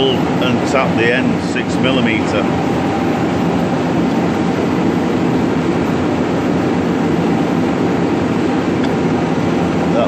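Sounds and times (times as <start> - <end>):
loud machine drone: 0.0 - 10.0.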